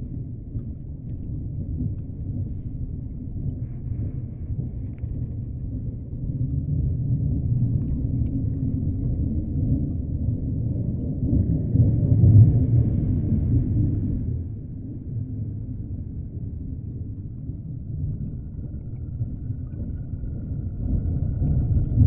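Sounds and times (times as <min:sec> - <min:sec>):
deep underwater rumble: 0:00.0 - 0:22.0.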